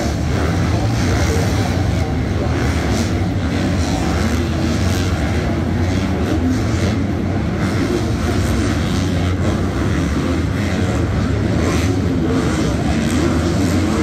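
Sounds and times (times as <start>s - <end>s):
motorcycles revving: 0.0s - 14.0s.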